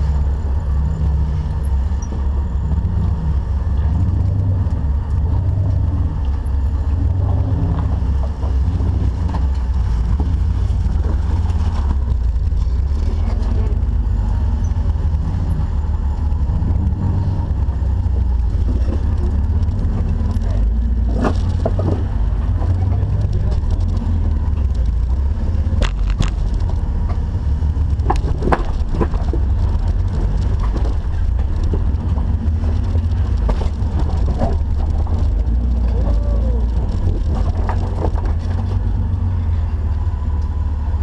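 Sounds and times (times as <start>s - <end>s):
off-road vehicle engine rumbling: 0.0s - 41.0s.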